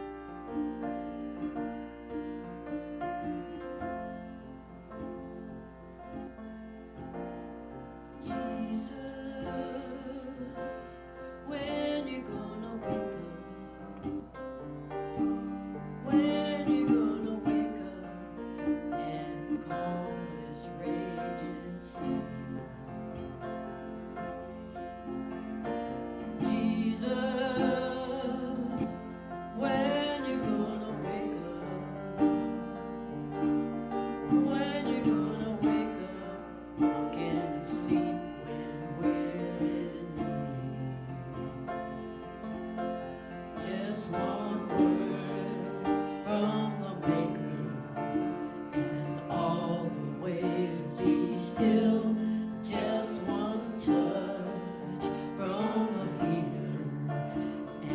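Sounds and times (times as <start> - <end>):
person singing: 0.0 - 57.9
piano accompaniment: 0.0 - 57.9.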